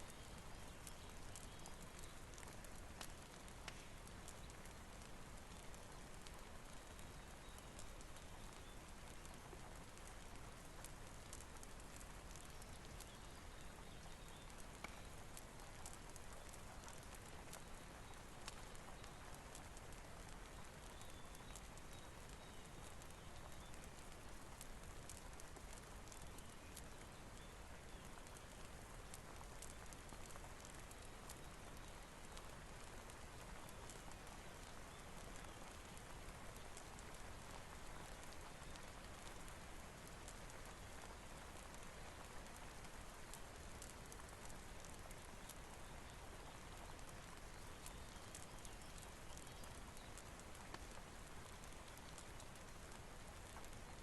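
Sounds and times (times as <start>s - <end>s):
faint rain: 0.0s - 54.0s
fireplace crackling: 0.0s - 54.0s.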